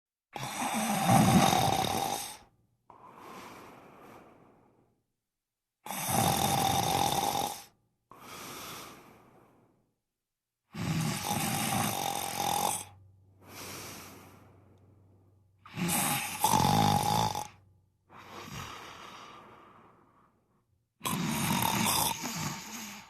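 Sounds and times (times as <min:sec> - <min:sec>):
person snoring: 0:00.4 - 0:04.7, 0:05.8 - 0:09.7, 0:10.7 - 0:14.8, 0:15.6 - 0:20.4, 0:21.0 - 0:23.0.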